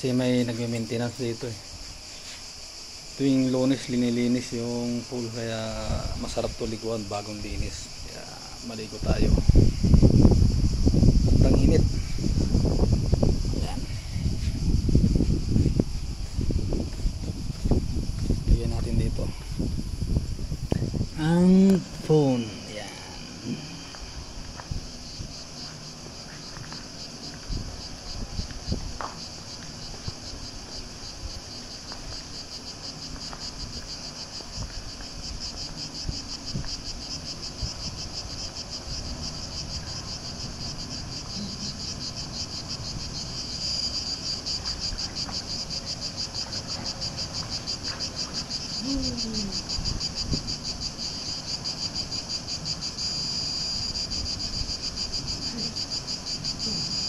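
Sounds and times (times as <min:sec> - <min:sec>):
cicadas singing: 0:00.0 - 0:57.0.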